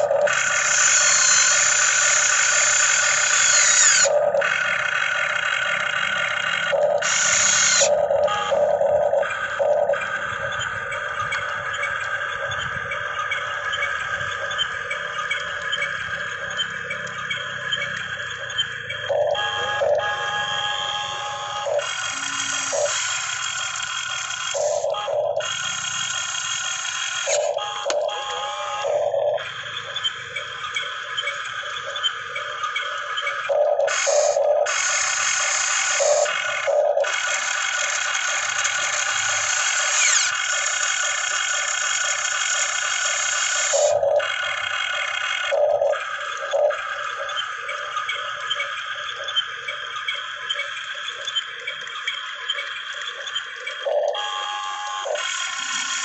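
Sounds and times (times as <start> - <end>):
toy excavator motors whining: 0.0 - 56.0.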